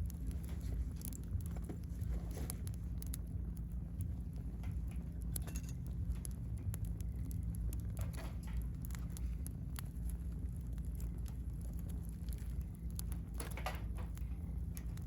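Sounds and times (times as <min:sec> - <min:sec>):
steady low rumble: 0:00.0 - 0:15.0
wood fire crackling and popping: 0:00.0 - 0:15.0.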